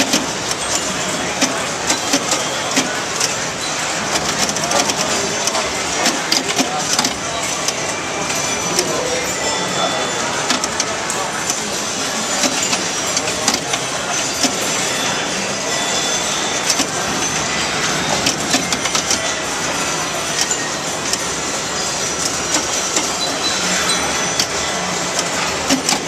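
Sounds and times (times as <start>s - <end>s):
hubbub of busy hall: 0.0s - 26.0s
pinball machine clicks: 0.0s - 26.0s.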